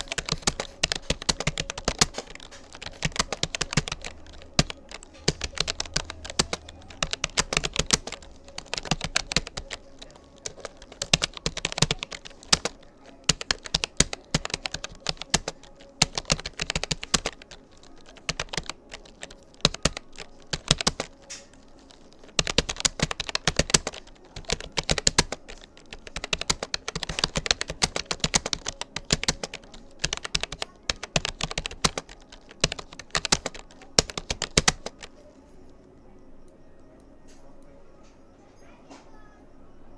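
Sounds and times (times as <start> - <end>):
keyboard typing clicks: 0.0 - 37.7.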